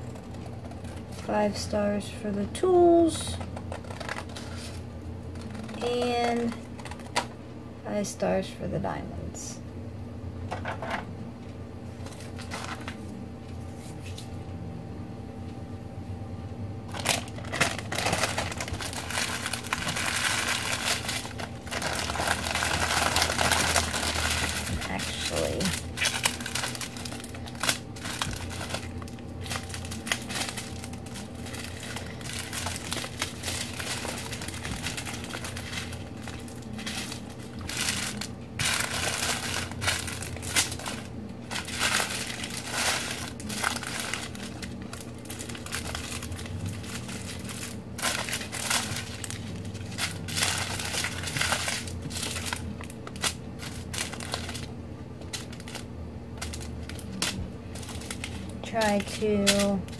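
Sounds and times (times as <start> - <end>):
plastic bags crinkling: 0.0 - 1.6, 2.7 - 7.4, 11.9 - 13.0, 16.9 - 59.9.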